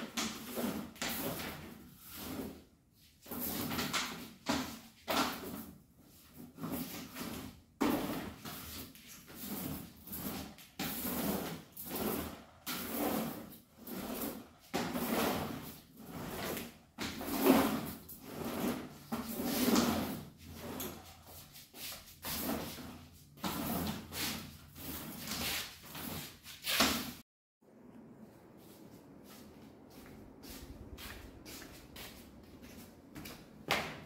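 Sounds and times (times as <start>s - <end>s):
mop swishing on hard floor: 0.0s - 27.2s, 27.9s - 34.0s.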